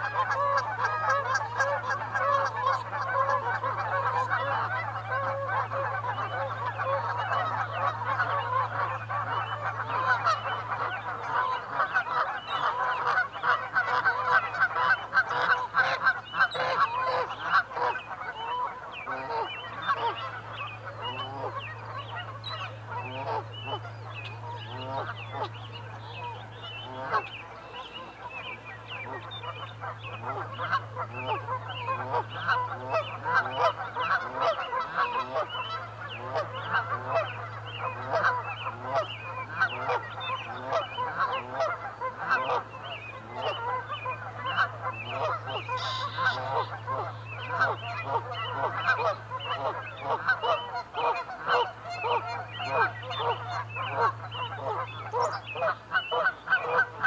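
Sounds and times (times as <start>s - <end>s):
geese honking: 0.0s - 57.0s
steady low hum: 0.0s - 57.0s.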